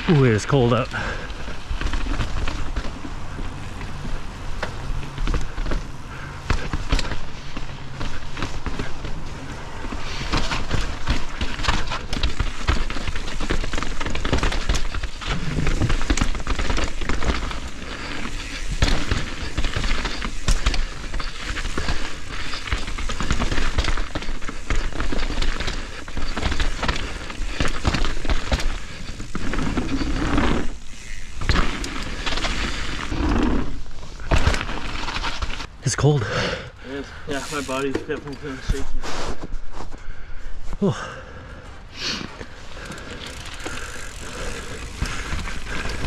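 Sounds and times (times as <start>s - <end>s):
bike rattling and knocking: 0.0s - 35.7s, 37.1s - 39.0s, 42.2s - 46.0s
bike tyres crackling over dirt: 0.0s - 36.0s, 36.8s - 46.0s.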